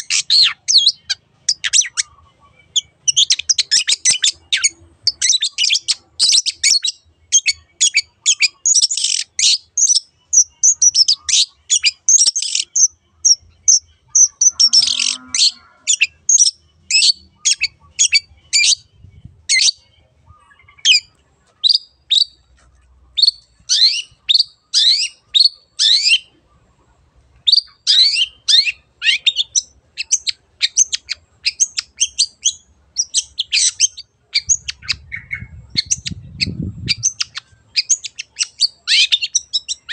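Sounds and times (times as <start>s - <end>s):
bird singing high chirps: 0.0s - 22.5s, 23.1s - 26.6s, 27.4s - 39.9s.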